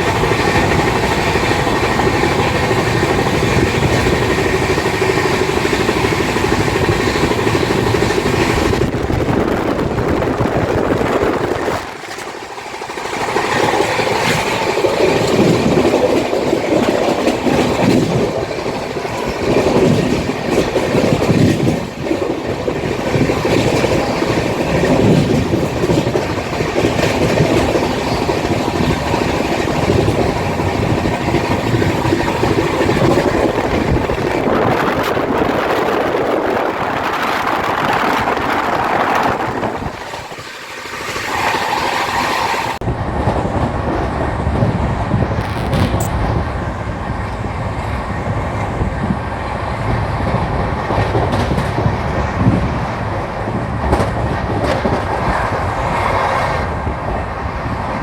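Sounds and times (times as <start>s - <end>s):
passenger train rumbling: 0.0s - 58.0s
train wheel clatter: 0.0s - 58.0s.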